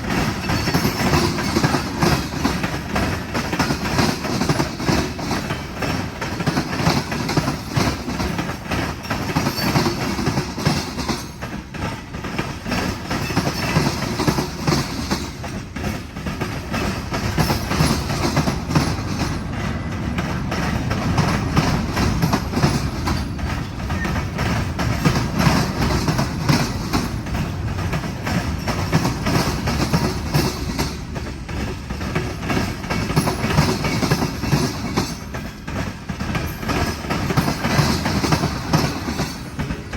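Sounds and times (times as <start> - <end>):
freight train cars rolling past: 0.0 - 39.9
wheels clacking over rail joints: 0.0 - 39.9.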